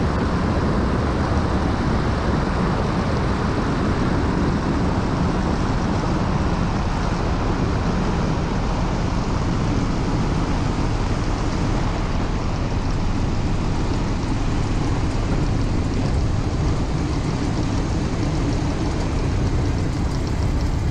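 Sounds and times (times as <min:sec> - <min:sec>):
trike engine running low: 0:00.0 - 0:20.9
wind rushing over camera: 0:00.0 - 0:20.9.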